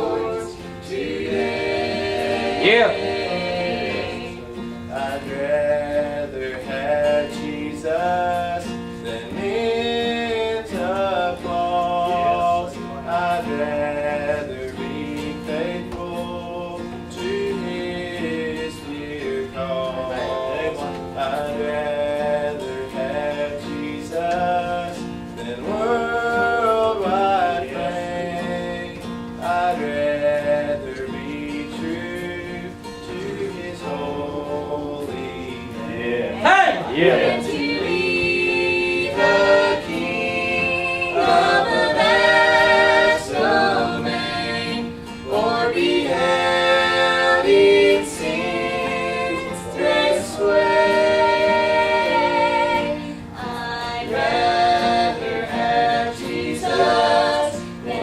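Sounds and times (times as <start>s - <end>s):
gospel music with acoustic guitar: 0.0s - 58.0s.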